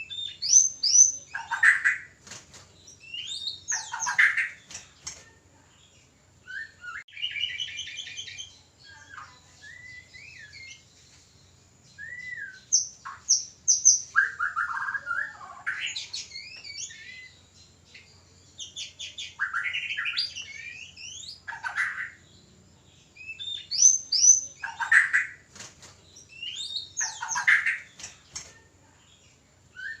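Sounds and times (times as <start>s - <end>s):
songbird whistles and trills: 0.0s - 2.2s, 2.8s - 5.2s, 6.4s - 22.2s, 23.2s - 28.5s, 29.7s - 30.0s.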